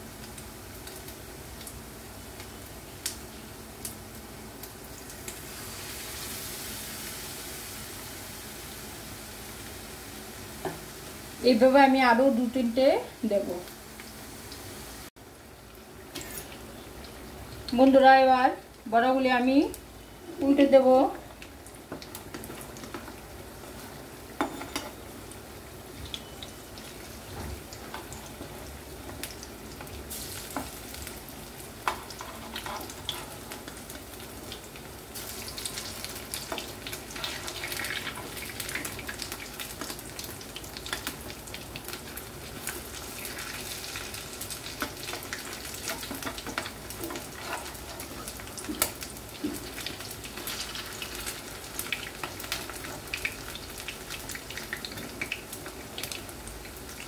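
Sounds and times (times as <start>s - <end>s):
fritters sizzling in hot oil: 0.0s - 57.0s.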